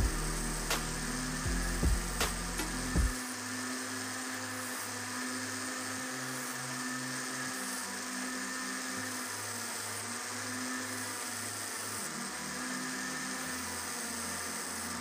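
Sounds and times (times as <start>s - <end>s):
electric disc sander sanding wood: 0.0s - 15.0s.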